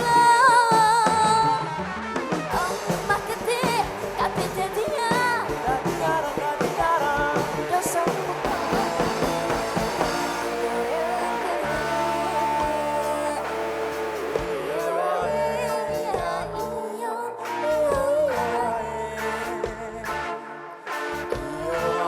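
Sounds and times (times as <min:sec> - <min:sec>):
band playing: 0:00.0 - 0:16.8, 0:17.4 - 0:22.0
person singing: 0:02.5 - 0:22.0.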